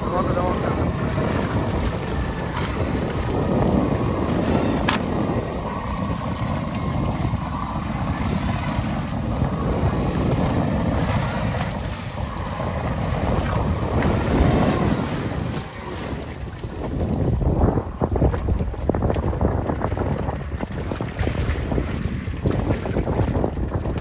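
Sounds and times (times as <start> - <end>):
sea washing around boat: 0.0 - 24.0
wind buffeting microphone: 0.0 - 24.0.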